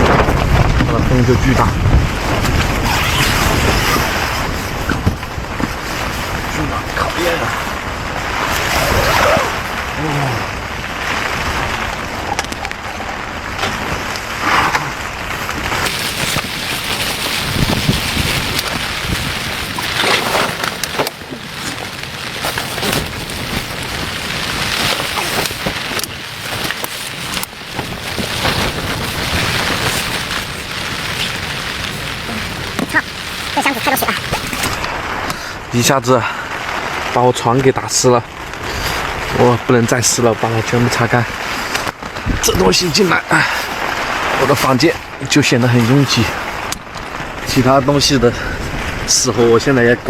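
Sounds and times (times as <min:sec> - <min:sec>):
wind gusting against tent: 0:00.0 - 0:50.0.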